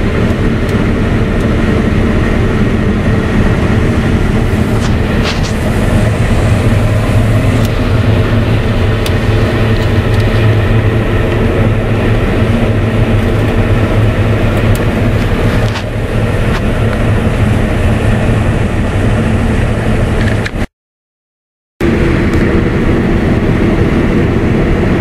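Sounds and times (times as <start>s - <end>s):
combine harvester droning hum: 0.0s - 20.7s, 21.8s - 25.0s.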